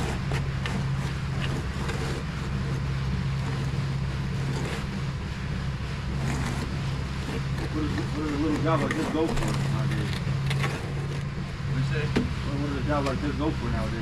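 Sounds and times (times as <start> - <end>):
diesel engine running: 0.0 - 14.0
outdoor noise: 0.0 - 14.0.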